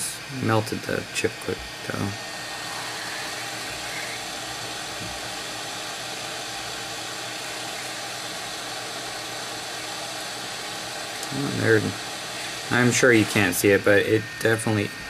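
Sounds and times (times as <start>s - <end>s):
hot air station blowing air: 0.0s - 15.0s.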